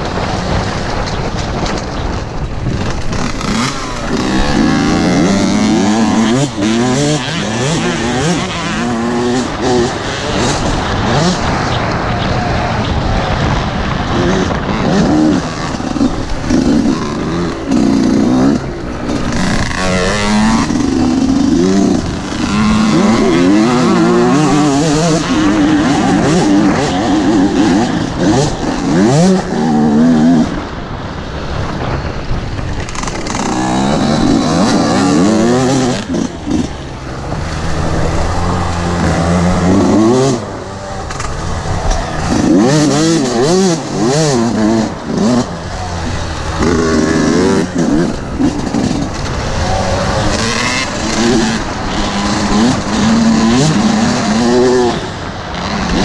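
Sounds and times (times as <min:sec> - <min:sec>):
dirt bike engine revving: 0:00.0 - 0:56.0
rushing noise: 0:00.0 - 0:56.0.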